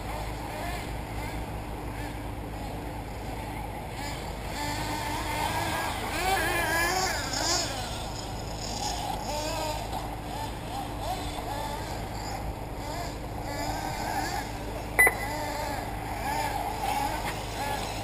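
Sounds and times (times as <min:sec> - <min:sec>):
model car motors whining: 0:00.0 - 0:18.0.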